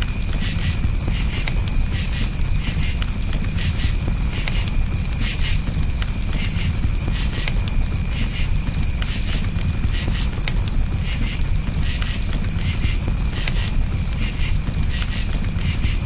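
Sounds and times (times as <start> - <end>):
campfire crackling and popping: 0.0 - 16.0
crickets chirping: 0.0 - 16.0
steady low rumble: 0.0 - 16.0.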